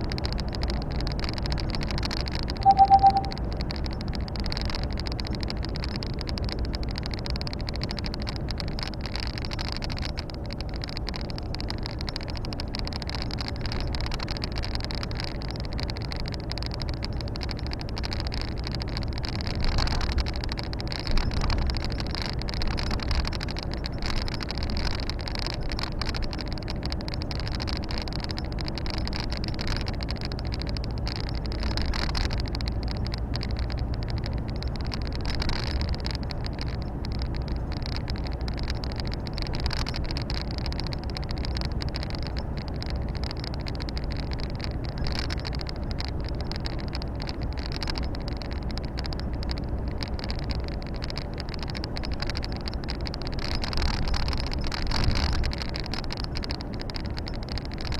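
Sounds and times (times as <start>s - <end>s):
road and tyre noise: 0.0s - 57.9s.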